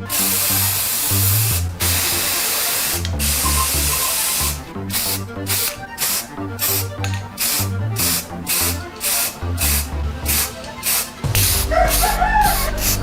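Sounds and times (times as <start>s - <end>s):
aerosol spray can spraying: 0.0s - 13.0s.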